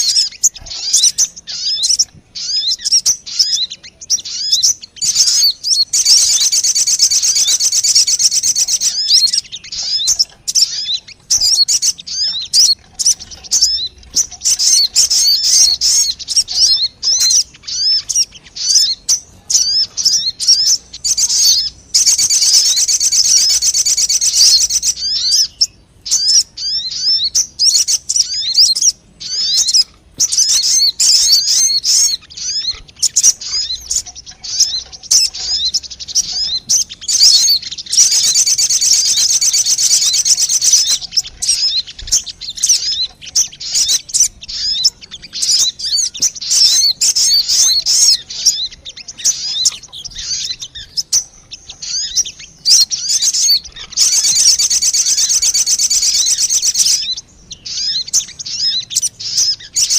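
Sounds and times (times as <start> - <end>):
bird chirps and sliding notes: 0.0 - 59.9.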